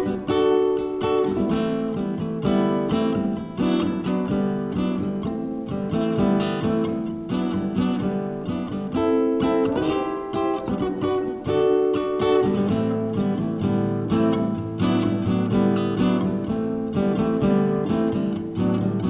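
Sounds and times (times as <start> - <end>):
classical guitar playing: 0.0 - 19.0.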